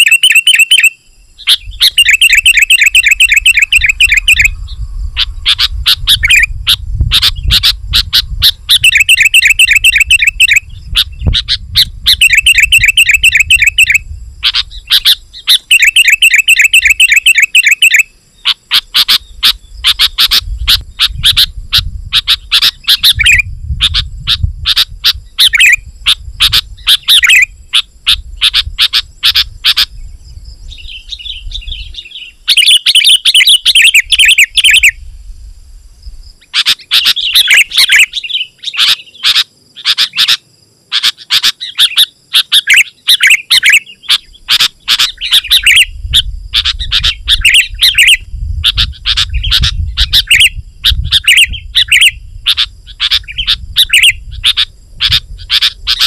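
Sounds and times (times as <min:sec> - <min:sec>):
bird singing trills and chirps: 0:00.0 - 0:35.1, 0:36.0 - 0:56.0.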